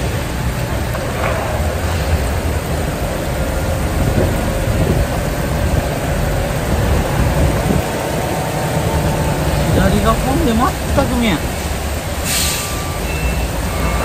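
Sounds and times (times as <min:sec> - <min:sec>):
diesel engine running: 0:00.0 - 0:14.0
heavy rain pouring: 0:00.0 - 0:14.0.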